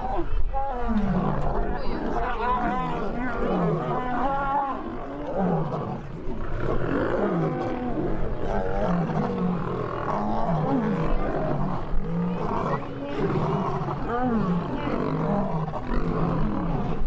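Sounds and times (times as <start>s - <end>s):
lions growling and snarling: 0.0s - 17.0s.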